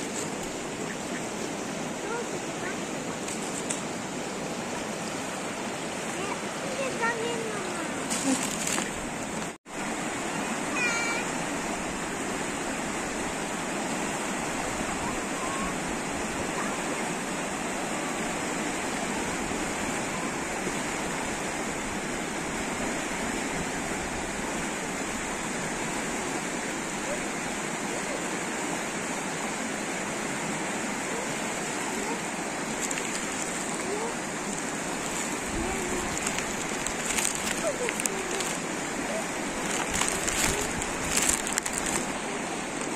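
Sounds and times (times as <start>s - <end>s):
river rushing over rapids: 0.0s - 42.9s.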